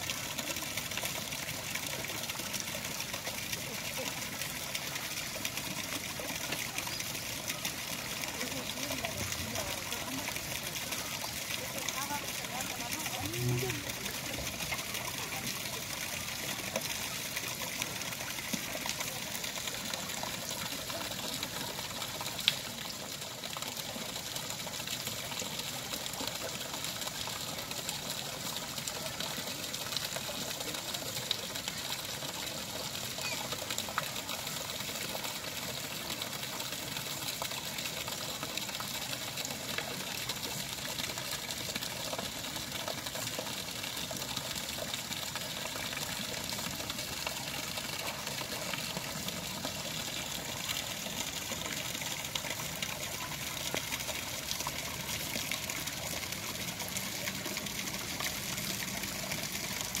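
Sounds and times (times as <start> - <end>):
water splashing into pond: 0.0 - 60.0.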